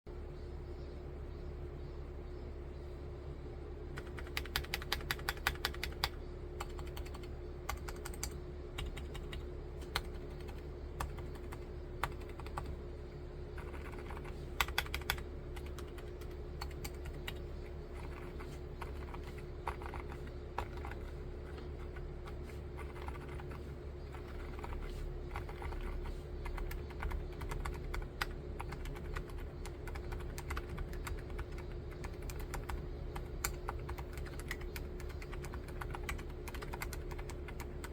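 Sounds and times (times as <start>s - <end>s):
steady low hum: 0.1s - 37.9s
mechanical keyboard typing: 4.0s - 12.7s, 13.6s - 37.9s.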